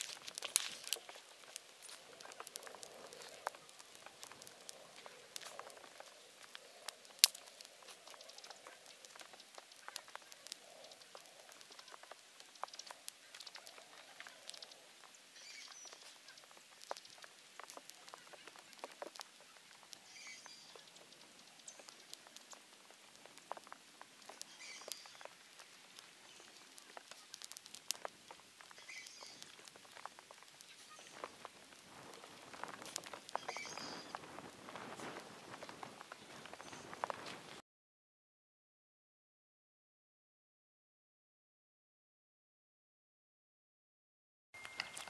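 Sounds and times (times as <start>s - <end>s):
campfire crackling: 0.0s - 37.6s, 44.6s - 45.0s
sharp pops from fire: 0.0s - 37.6s.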